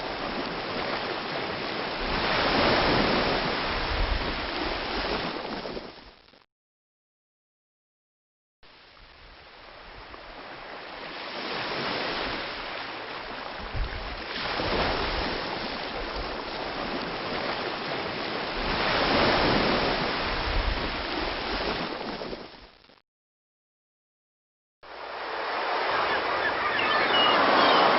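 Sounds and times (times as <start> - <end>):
ocean waves breaking on beach: 0.0 - 6.0, 8.8 - 22.6, 24.8 - 27.9.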